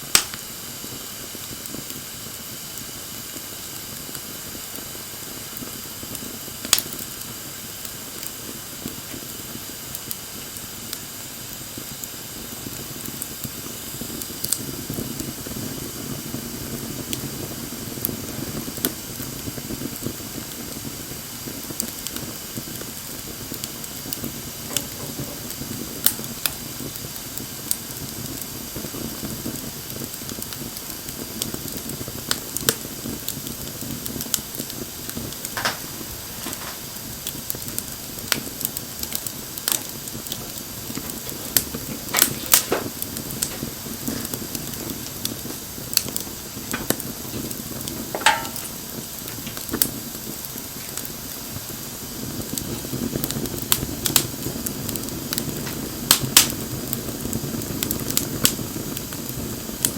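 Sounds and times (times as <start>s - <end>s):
bonfire flames hissing: 0.0s - 59.9s
burning wood popping and crackling: 0.0s - 59.9s.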